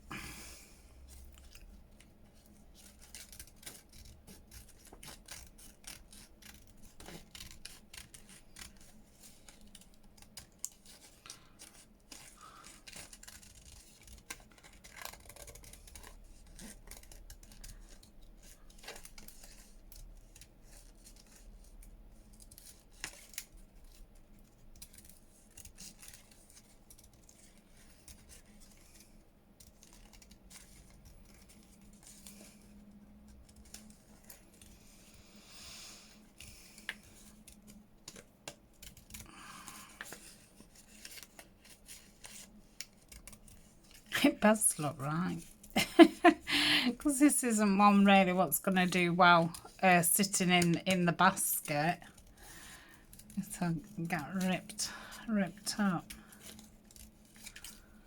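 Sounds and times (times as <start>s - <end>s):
scissors snipping paper: 1.0s - 35.1s, 36.2s - 47.1s, 48.7s - 58.0s.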